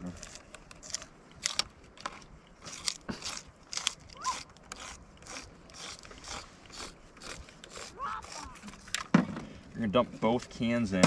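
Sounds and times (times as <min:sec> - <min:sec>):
can opener rasping crunch: 0:00.0 - 0:09.1.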